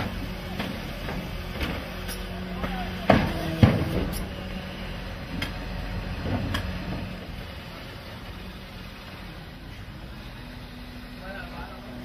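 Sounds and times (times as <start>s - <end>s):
garbage truck humming: 0.0s - 12.0s.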